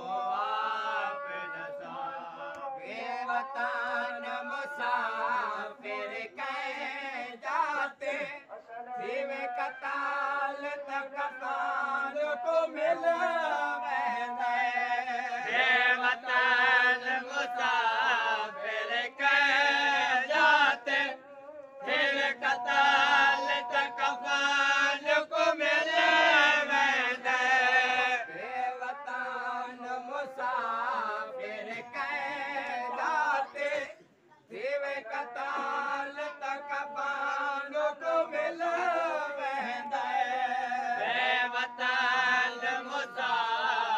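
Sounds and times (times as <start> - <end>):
men chanting a lament: 0.0 - 43.9.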